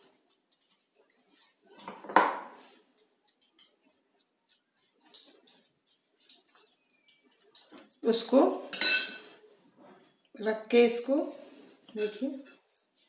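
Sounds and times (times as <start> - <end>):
light clicks and scrapes: 0.0 - 10.4, 11.4 - 13.0.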